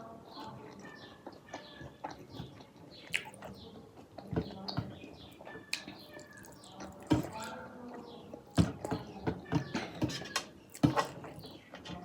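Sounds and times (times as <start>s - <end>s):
chewing and mouth sounds: 0.3s - 9.0s, 10.6s - 11.8s.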